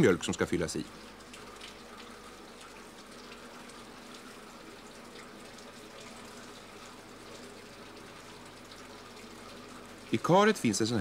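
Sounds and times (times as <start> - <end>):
milk pouring into steel vat: 0.0 - 11.0.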